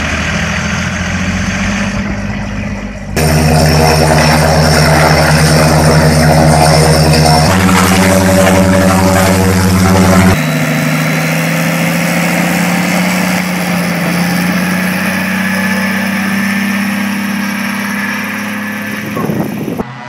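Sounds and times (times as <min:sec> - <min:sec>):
propeller aircraft engine running: 0:00.0 - 0:20.0.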